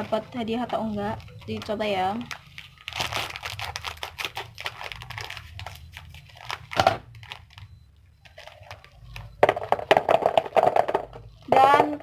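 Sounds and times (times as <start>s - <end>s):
plastic snack packet crackling: 0.0s - 7.7s, 8.3s - 10.9s.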